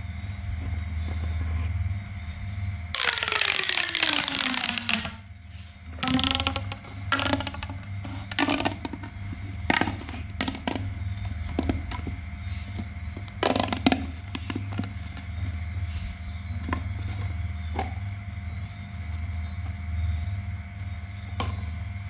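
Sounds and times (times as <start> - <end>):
steady low hum: 0.0 - 22.0
crinkling and scraping of craft materials: 0.5 - 19.8.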